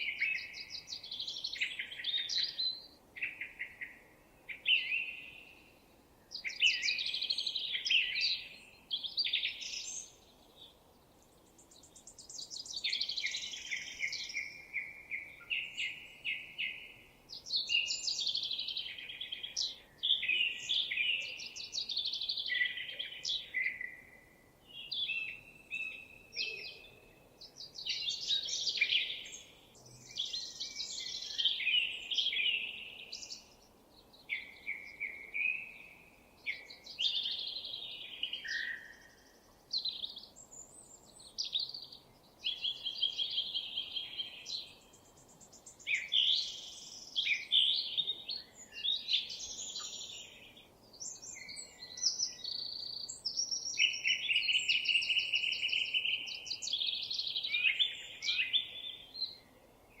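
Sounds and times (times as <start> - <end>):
faint background hiss: 0.0 - 60.0
songbird singing: 0.0 - 60.0.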